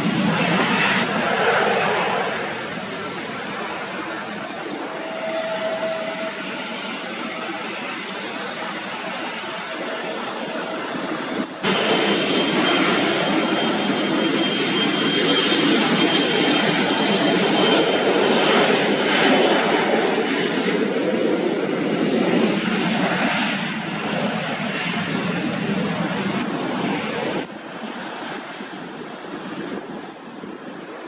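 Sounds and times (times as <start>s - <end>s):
jet engines rushing with whine: 0.0s - 31.0s.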